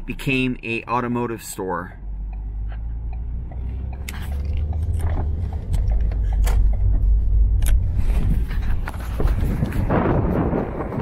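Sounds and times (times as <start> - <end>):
low rumble: 2.0 - 11.0.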